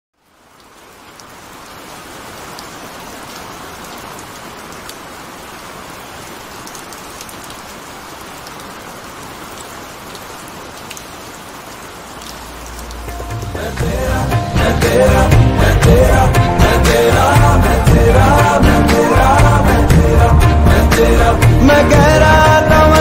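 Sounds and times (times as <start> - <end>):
heavy rain falling: 0.2 - 23.0.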